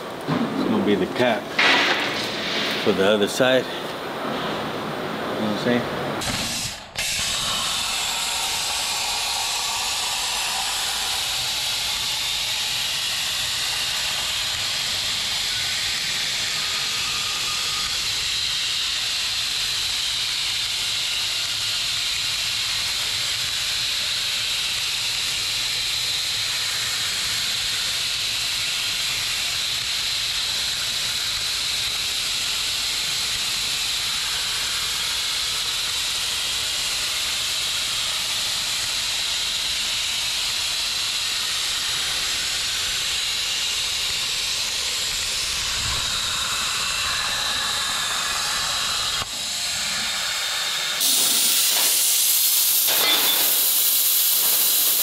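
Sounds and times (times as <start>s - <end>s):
plasma cutter hissing: 5.6s - 55.0s.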